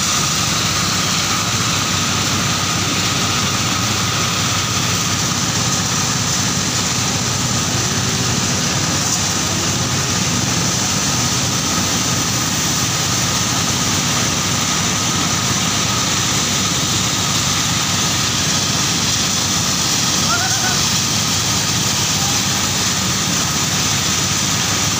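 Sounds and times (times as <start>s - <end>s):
corn milling machine running: 0.0s - 24.9s.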